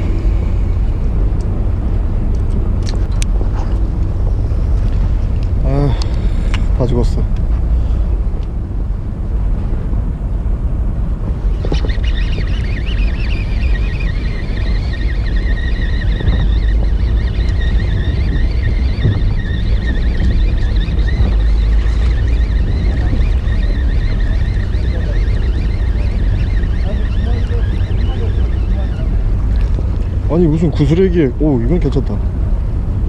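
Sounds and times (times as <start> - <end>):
boat engine rumbling: 0.0 - 33.0
high wavering whine: 0.0 - 33.0
wind buffeting microphone: 0.0 - 33.0.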